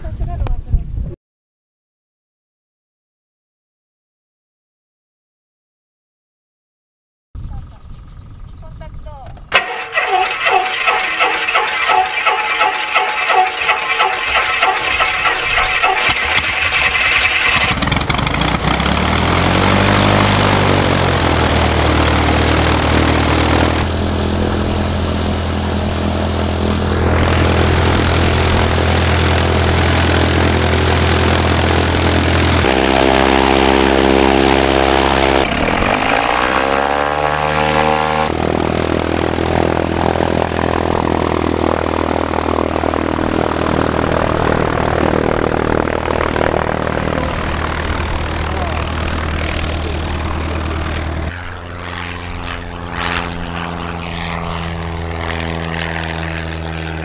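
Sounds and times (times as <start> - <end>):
propeller plane engine running: 7.6 - 57.0.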